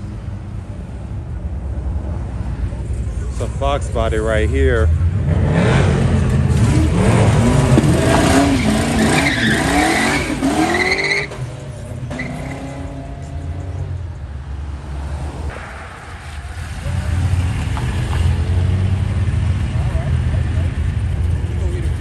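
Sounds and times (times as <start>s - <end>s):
car engine accelerating: 2.6s - 22.0s
tires squealing: 3.3s - 22.0s.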